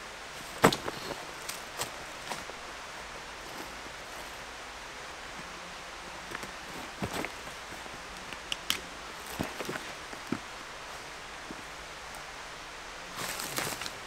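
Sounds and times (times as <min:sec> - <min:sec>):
woodland ambience hiss: 0:00.0 - 0:14.0.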